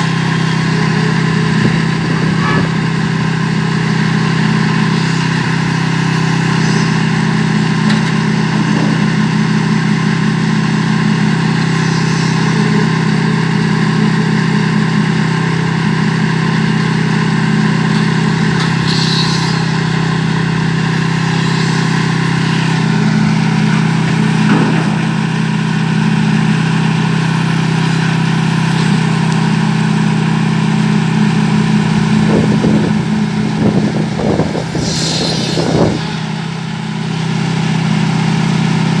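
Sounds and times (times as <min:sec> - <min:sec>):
concrete mixer engine running: 0:00.0 - 0:39.0.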